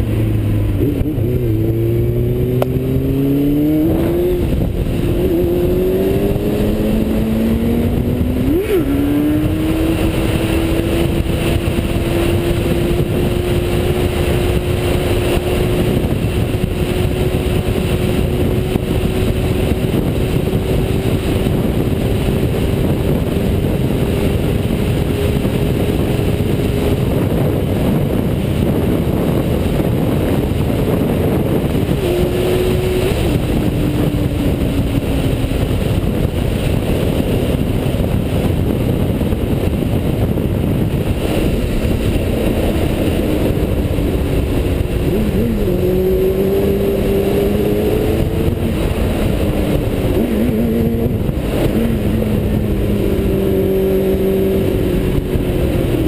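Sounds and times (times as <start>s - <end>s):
motorcycle engine revving: 0.0s - 56.0s
wind rush on microphone: 0.0s - 56.0s.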